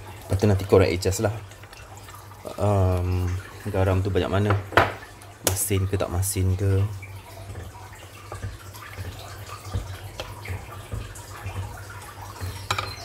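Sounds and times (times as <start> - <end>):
gravy bubbling in a pot: 0.0 - 13.0.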